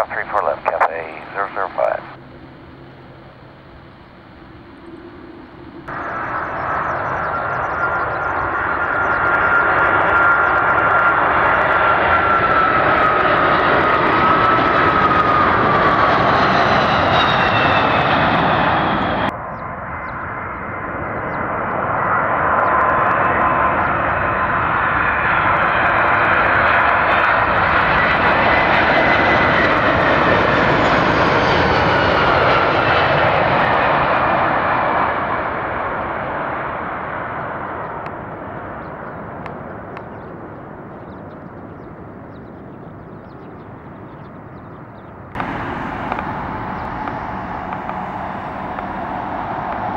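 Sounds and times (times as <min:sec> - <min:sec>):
jet aircraft passing with whine: 0:00.0 - 0:49.9.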